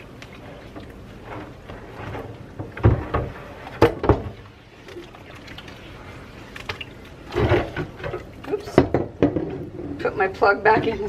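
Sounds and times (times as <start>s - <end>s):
water sloshing in a sink: 0.0s - 11.0s.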